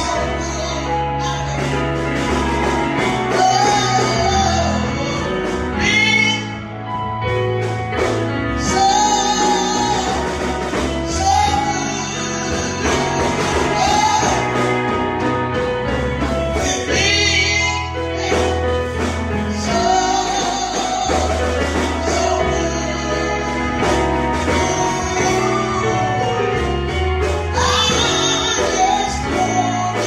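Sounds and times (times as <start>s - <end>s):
band with chords and bass: 0.0s - 30.0s
person singing gospel: 0.0s - 30.0s.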